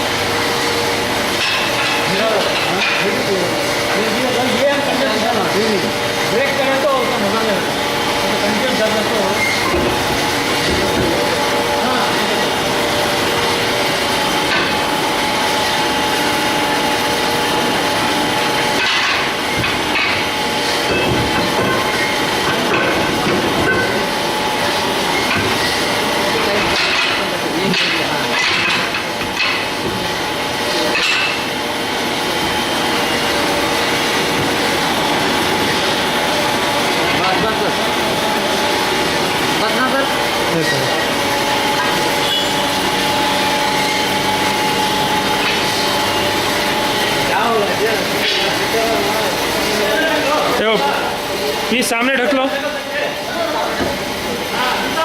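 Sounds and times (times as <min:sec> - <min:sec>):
lathe machining steel: 0:00.0 - 0:55.0.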